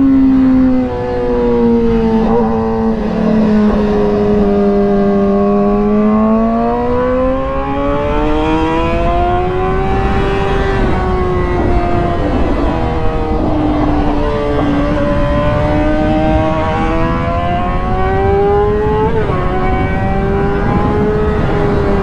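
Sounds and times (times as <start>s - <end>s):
motorcycle engine running hard: 0.0s - 22.0s
wind rush: 0.0s - 22.0s.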